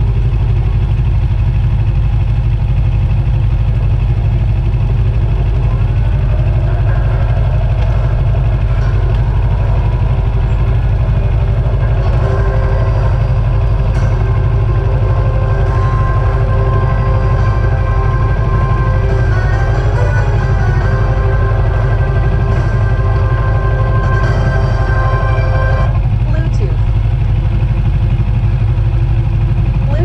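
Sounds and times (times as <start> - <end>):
motorbike engine idling: 0.0 - 30.0
street traffic: 0.0 - 30.0.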